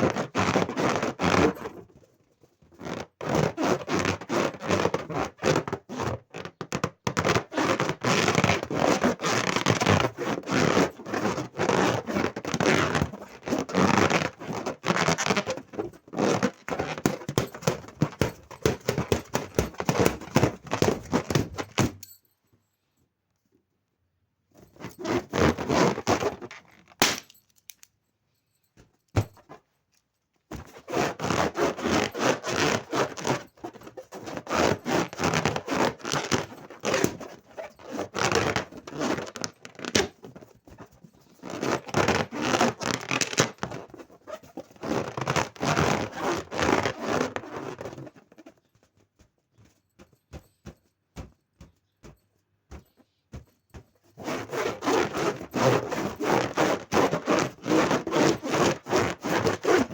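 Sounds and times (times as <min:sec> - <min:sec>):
balloons rubbing and scraping: 0:00.0 - 0:22.0, 0:24.5 - 0:27.0, 0:29.2 - 0:29.7, 0:30.5 - 0:59.9.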